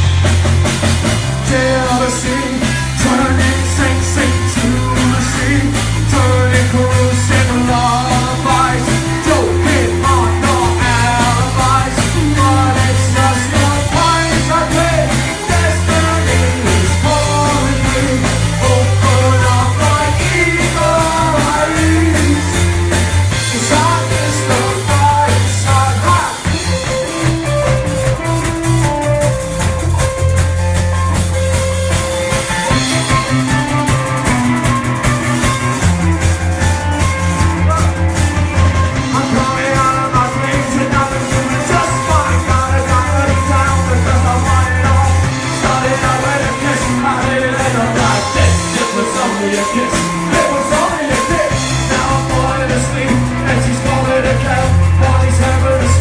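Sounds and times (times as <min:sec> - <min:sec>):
bass guitar: 0:00.0 - 0:56.0
drum kit: 0:00.0 - 0:56.0
electric guitars: 0:00.0 - 0:56.0
person singing: 0:01.2 - 0:28.2, 0:36.7 - 0:56.0.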